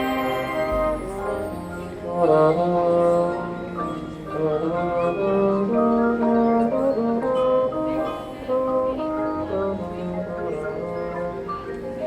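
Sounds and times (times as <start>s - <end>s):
marching band brass chords: 0.0s - 11.7s.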